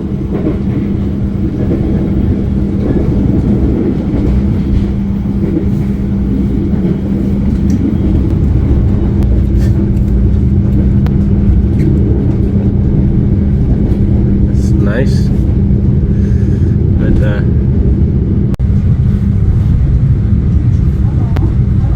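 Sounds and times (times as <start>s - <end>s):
constant hum: 0.0s - 21.9s
train rumble inside carriage: 0.0s - 21.9s.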